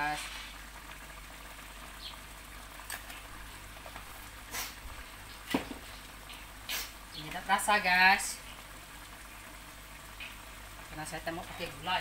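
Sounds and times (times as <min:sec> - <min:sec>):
gravy simmering and sizzling: 0:00.0 - 0:12.0.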